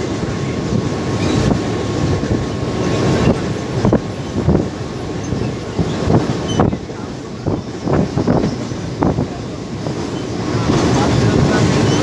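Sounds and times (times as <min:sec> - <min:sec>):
train wheel clacks: 0:00.0 - 0:12.0
train wheels rumbling on rails: 0:00.0 - 0:12.0.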